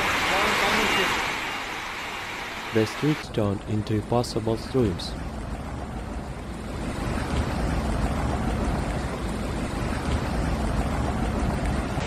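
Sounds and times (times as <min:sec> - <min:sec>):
deep rumble of floodwater: 0:00.0 - 0:12.0.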